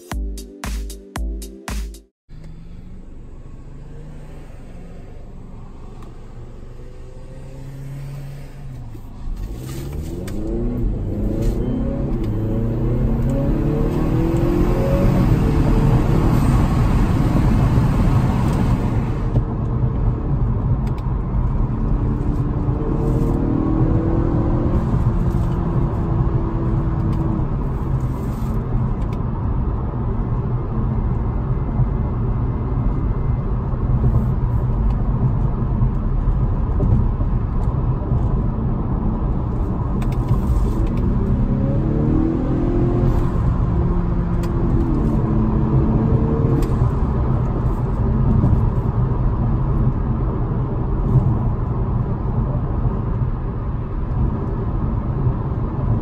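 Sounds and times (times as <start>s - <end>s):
car engine accelerating: 2.3s - 56.0s
road and tyre noise: 2.3s - 56.0s.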